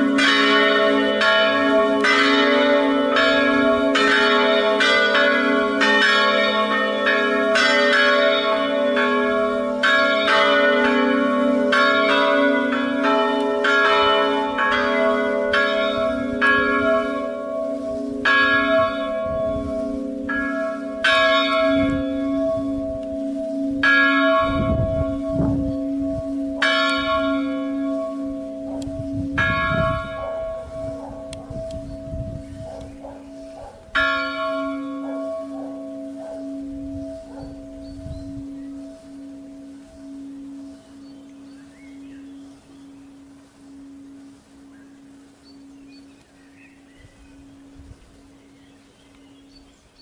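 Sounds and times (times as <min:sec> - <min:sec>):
church bells ringing: 0:00.0 - 0:48.5.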